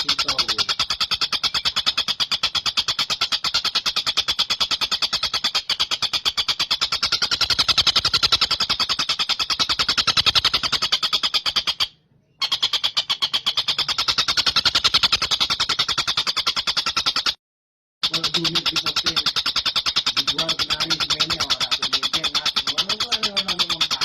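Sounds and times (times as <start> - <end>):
kingfisher trilling: 0.0 - 17.2, 18.0 - 24.0.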